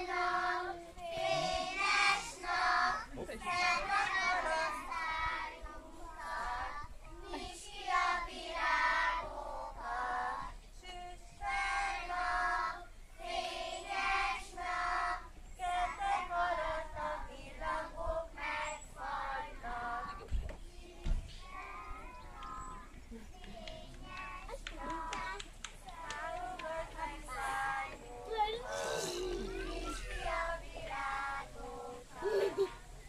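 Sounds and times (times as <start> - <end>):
children singing in unison: 0.0 - 33.0.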